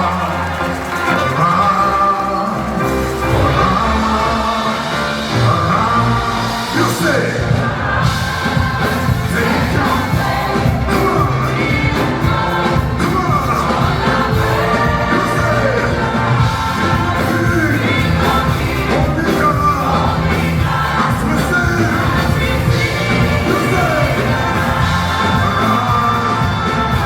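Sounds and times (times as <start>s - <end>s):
band with steady drum beat: 0.0s - 27.0s
singing voices: 0.0s - 27.0s.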